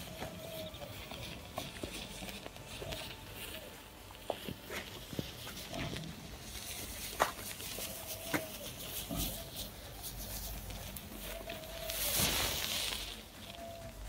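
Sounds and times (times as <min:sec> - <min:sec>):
matchsticks burning with crackle: 0:00.0 - 0:14.0.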